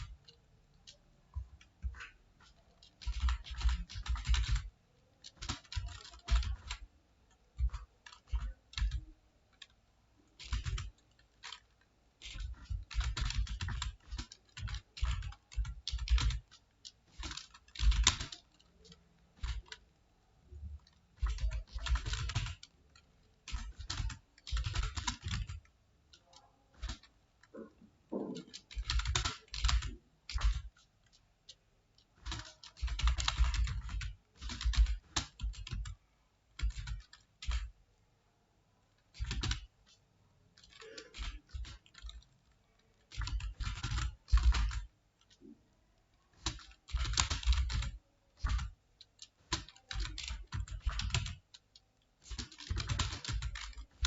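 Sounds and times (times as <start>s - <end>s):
computer keyboard typing: 0.0s - 37.8s, 38.8s - 54.0s.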